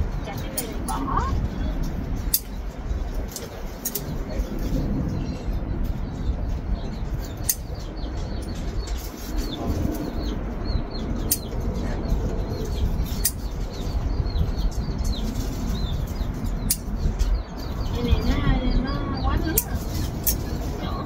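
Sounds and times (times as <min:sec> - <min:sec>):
low rumble: 0:00.0 - 0:21.0
small birds chirping: 0:00.0 - 0:21.0.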